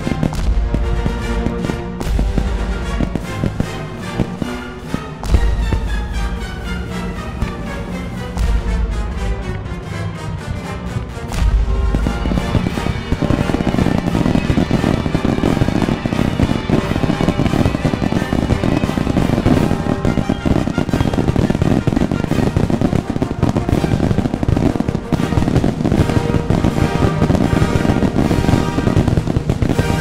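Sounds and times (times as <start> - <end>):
fireworks bangs and crackles: 0.0 - 9.6, 10.4 - 30.0
music playing: 0.0 - 30.0.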